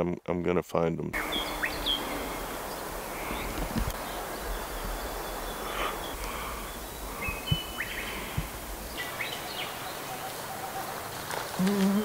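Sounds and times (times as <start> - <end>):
outdoor hiss: 0.0 - 12.0
small birds whistling: 1.2 - 12.0.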